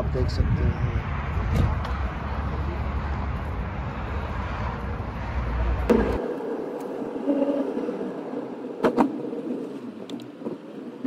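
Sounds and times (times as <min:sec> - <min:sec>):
wind and traffic rumble: 0:00.0 - 0:11.0
car cabin drone: 0:00.1 - 0:11.0.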